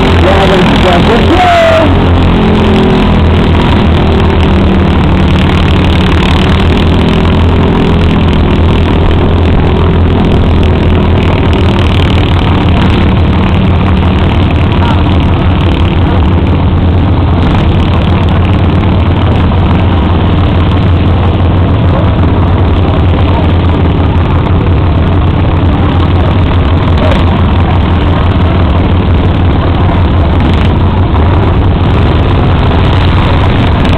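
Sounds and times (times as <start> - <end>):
tractor engine running hard: 0.0 - 33.9.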